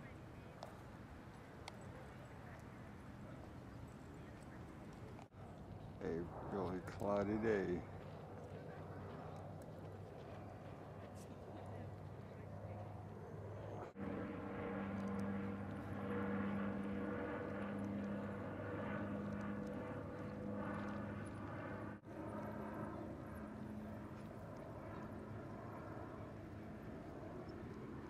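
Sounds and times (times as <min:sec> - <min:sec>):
droning engine hum: 0:00.0 - 0:28.0.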